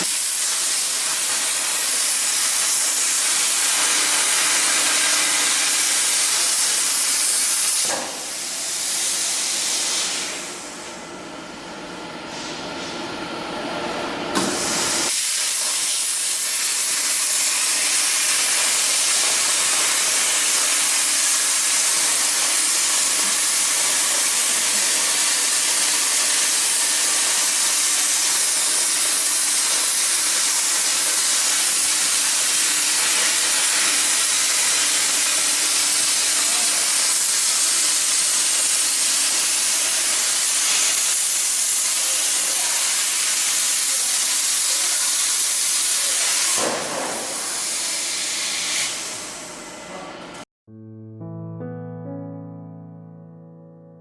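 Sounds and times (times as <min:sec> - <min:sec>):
cutting torch hissing: 0:00.0 - 0:10.6, 0:14.4 - 0:49.8.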